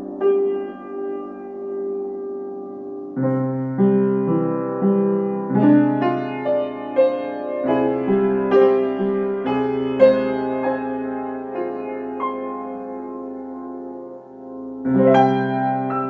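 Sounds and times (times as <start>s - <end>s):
solo piano: 0.0s - 16.0s.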